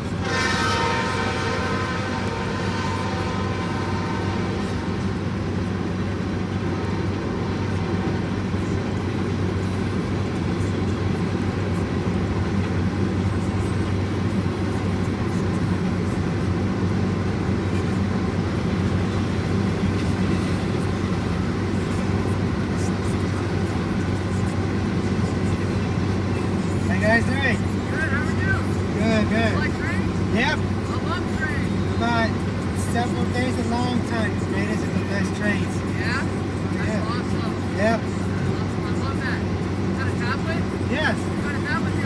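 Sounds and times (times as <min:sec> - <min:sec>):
locomotive horn: 0:00.0 - 0:08.5, 0:13.1 - 0:42.0
train rumbling on rails: 0:00.0 - 0:42.0.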